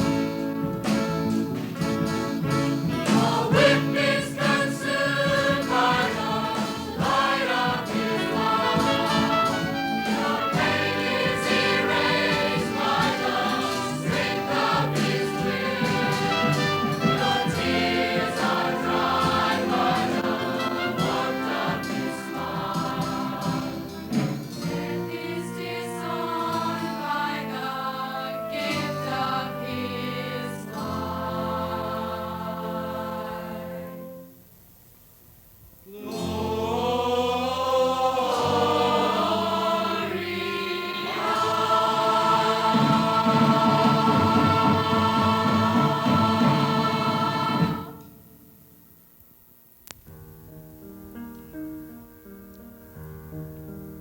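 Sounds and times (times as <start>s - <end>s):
choir singing gospel: 0.0s - 34.3s, 35.9s - 48.4s
instrumental accompaniment: 0.0s - 34.4s, 36.1s - 48.4s.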